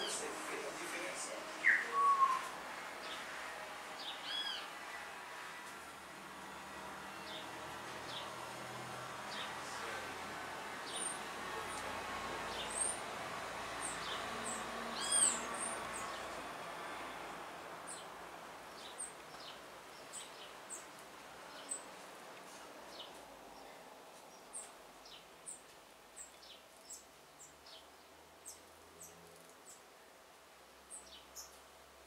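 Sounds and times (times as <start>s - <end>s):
small birds chirping: 0.0s - 3.3s, 4.0s - 4.7s, 7.1s - 8.5s, 9.2s - 17.1s, 17.9s - 29.9s, 30.8s - 31.7s.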